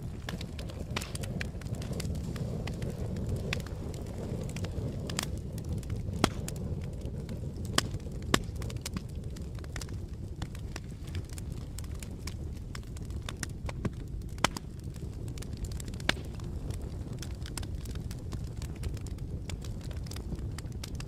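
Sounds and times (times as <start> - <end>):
burning wood crackling and popping: 0.0 - 21.0
campfire rumbling: 0.0 - 21.0.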